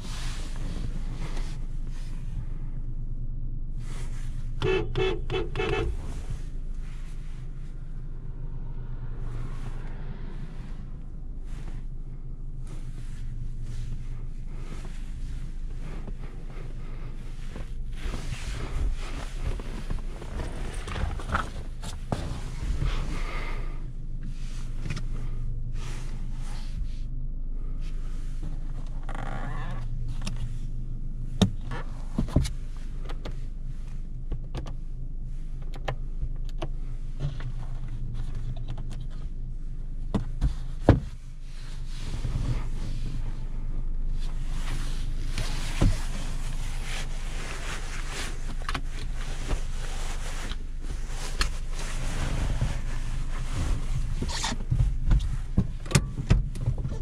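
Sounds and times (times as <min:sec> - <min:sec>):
car engine running: 0:00.0 - 0:57.0
road and tyre noise: 0:00.0 - 0:57.0.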